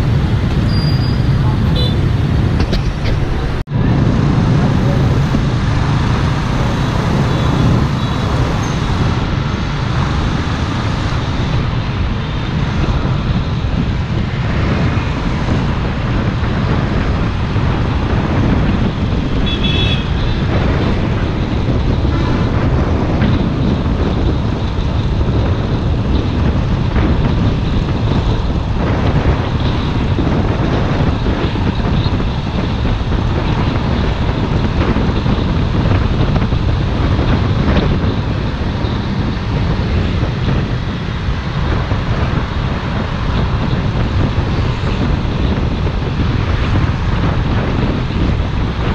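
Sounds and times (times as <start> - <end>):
loud road traffic rumble: 0.0 - 48.9.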